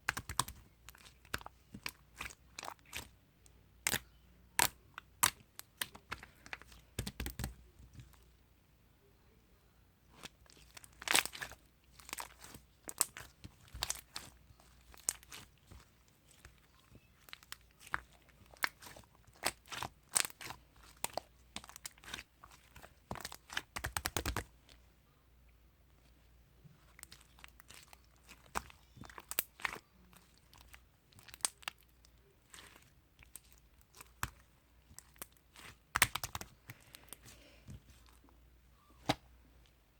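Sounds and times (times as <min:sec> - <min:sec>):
slime popping and crackling: 0:00.0 - 0:03.1, 0:03.8 - 0:08.2, 0:10.2 - 0:24.5, 0:26.9 - 0:38.2.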